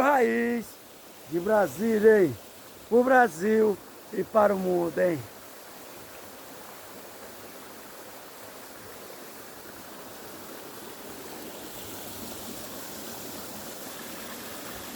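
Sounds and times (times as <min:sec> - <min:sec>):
waterfall and stream rushing: 0:00.0 - 0:14.9.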